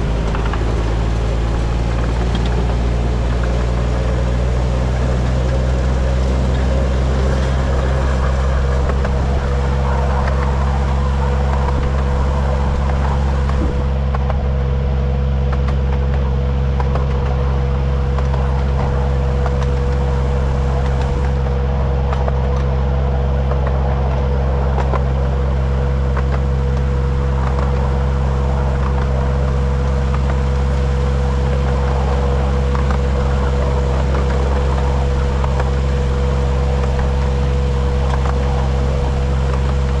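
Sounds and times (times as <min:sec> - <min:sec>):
diesel locomotive engine running: 0:00.0 - 0:40.0
steady whine: 0:00.0 - 0:40.0.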